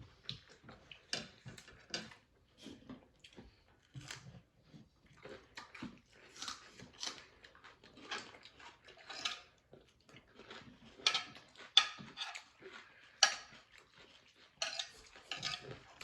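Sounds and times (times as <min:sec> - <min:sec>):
people chewing: 0:00.1 - 0:16.0.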